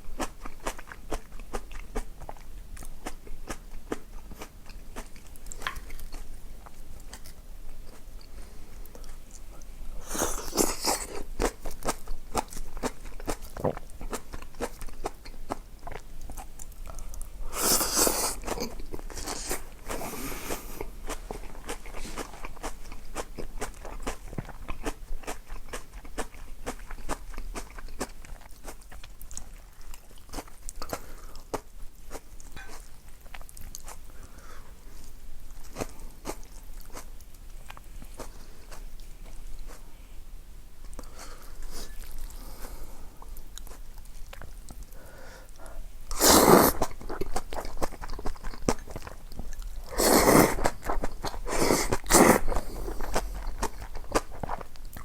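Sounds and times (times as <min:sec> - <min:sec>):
person chewing crunchy food: 0:00.0 - 0:34.3, 0:34.9 - 0:39.9, 0:40.9 - 0:45.0, 0:45.6 - 0:55.0.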